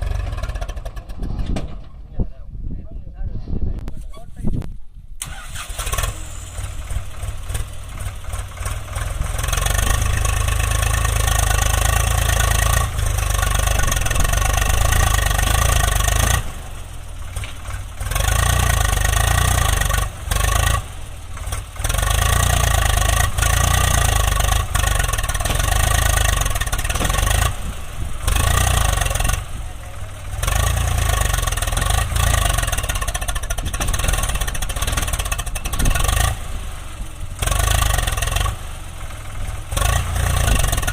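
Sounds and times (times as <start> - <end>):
heavy diesel engine running: 0.0 - 2.0, 5.2 - 40.9.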